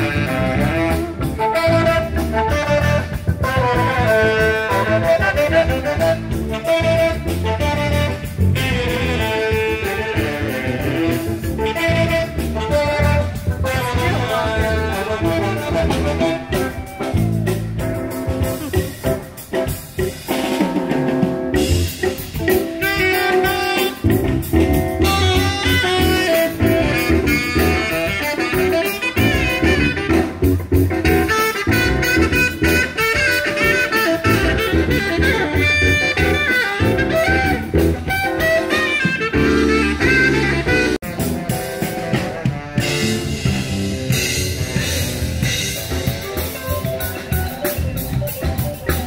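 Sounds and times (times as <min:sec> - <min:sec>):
live band playing: 0:00.0 - 0:49.0.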